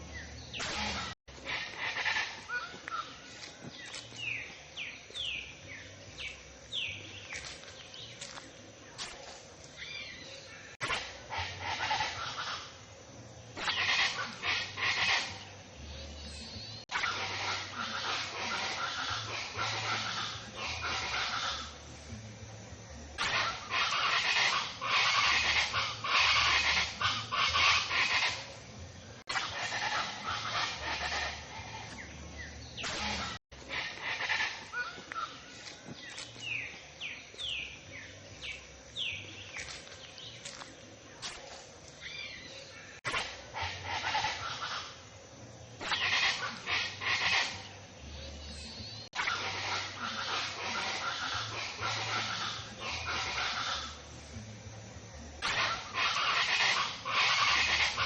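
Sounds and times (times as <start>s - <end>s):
birds chirping and chattering: 0.0s - 58.0s
steady background hiss: 0.0s - 58.0s.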